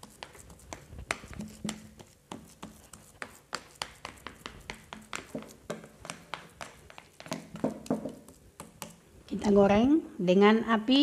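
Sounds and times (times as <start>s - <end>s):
plastic spatula tapping in container: 0.0s - 9.0s.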